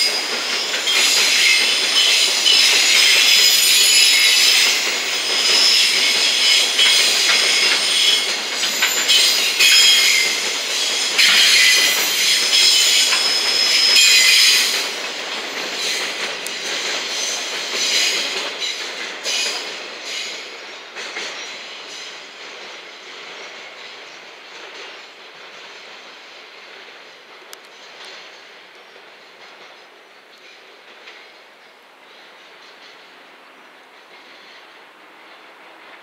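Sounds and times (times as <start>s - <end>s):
freight train wheels squealing: 0.0s - 36.0s
train rolling rumble: 0.0s - 36.0s.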